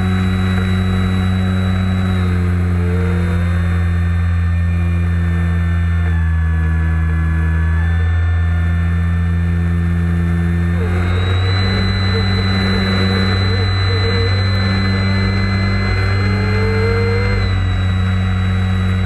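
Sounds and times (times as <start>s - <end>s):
high motor whine: 0.0s - 19.0s
model plane motor drone: 0.0s - 19.0s.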